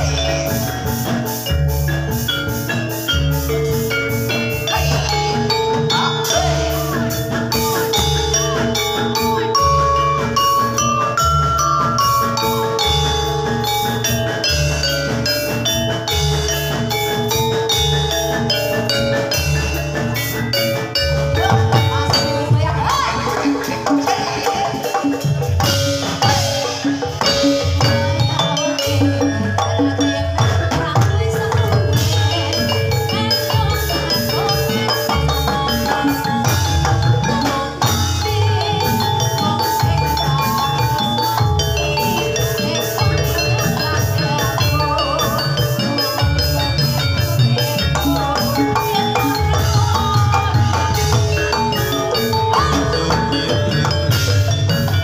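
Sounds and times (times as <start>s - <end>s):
metallophones striking melodic patterns: 0.0s - 55.0s
repeating drum rhythm: 0.0s - 55.0s.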